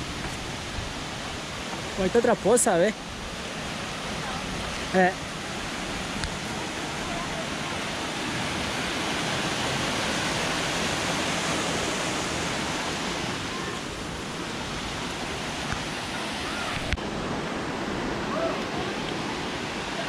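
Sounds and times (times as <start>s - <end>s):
creek water cascading over rocks: 0.0s - 20.0s.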